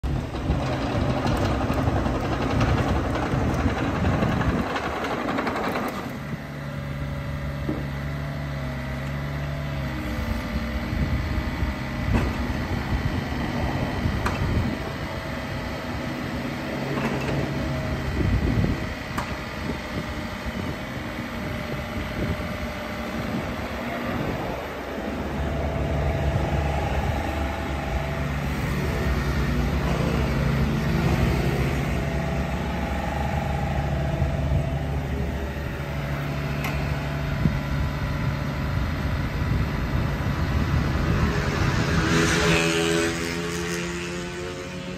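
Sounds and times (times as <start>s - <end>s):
mini excavator diesel engine running: 0.0s - 44.9s.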